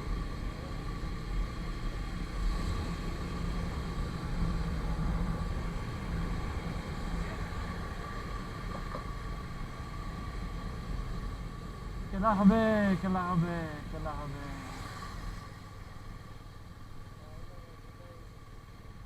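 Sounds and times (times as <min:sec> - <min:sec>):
motorcycle engine and road rumble: 0:00.0 - 0:19.0.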